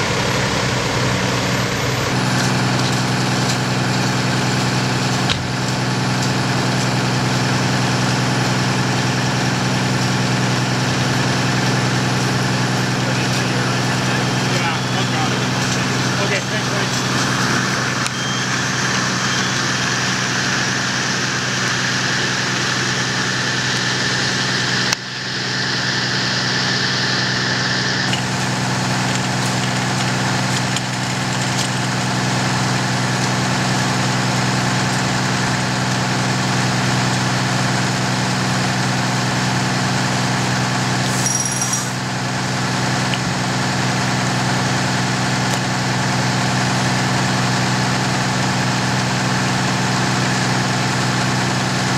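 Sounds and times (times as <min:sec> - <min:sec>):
diesel engine idling: 0:00.0 - 0:41.2, 0:41.8 - 0:51.9.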